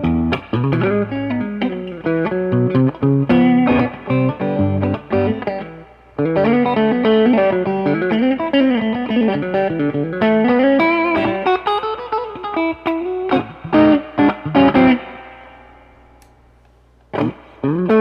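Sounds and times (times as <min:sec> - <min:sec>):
electric guitar chords and melody: 0:00.0 - 0:16.4, 0:17.1 - 0:18.0.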